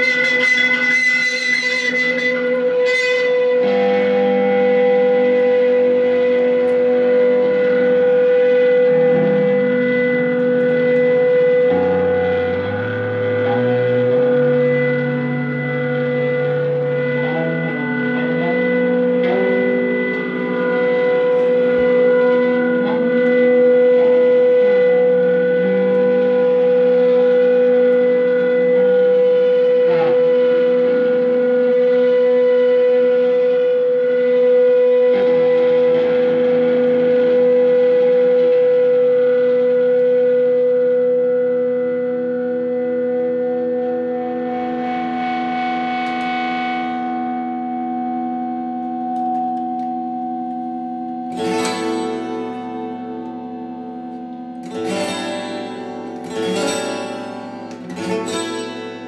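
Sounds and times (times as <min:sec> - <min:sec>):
quickly played guitar strings: 0:00.0 - 0:31.8, 0:41.8 - 0:59.0
guitar drone improvisation: 0:00.0 - 0:59.0.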